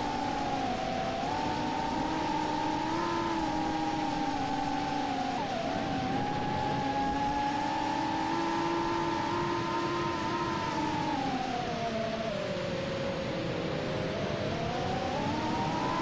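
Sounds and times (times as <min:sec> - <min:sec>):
wind rush: 0:00.0 - 0:16.0.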